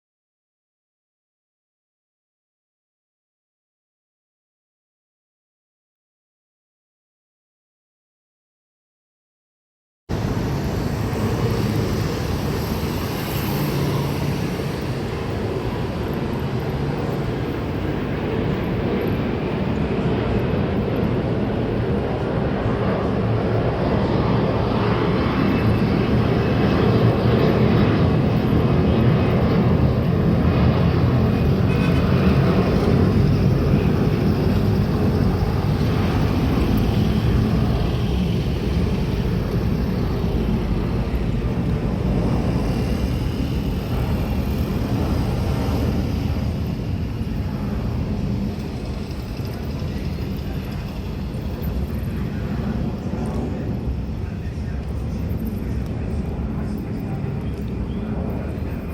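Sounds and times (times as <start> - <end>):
jet aircraft engines rumbling: 10.1 - 58.9.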